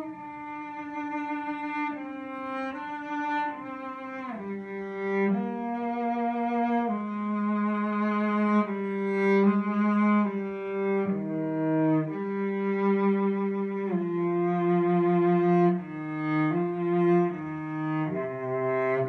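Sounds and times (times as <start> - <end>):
cello solo melody: 0.0 - 19.0.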